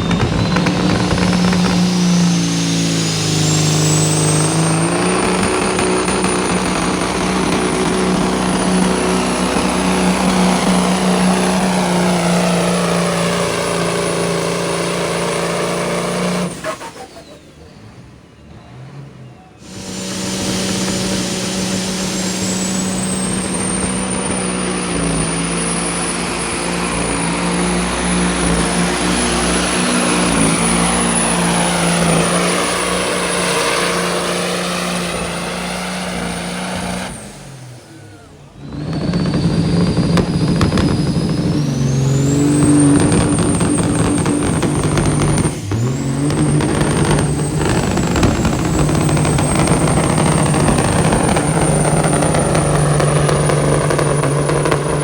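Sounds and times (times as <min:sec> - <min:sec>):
high engine whine: 0:00.0 - 0:55.0
vehicle engine running hard: 0:00.0 - 0:55.0.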